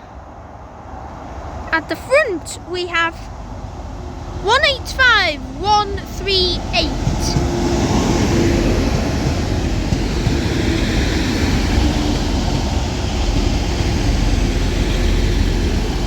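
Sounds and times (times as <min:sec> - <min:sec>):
train engines and wheels rumbling: 0:00.0 - 0:16.0.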